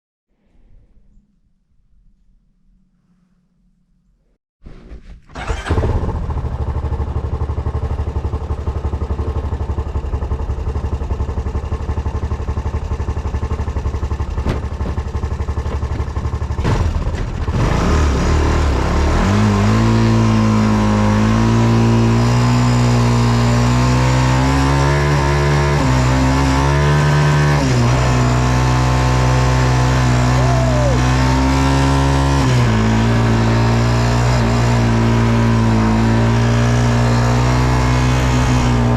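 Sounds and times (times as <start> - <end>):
atv engine idling and revving: 5.4 - 38.9.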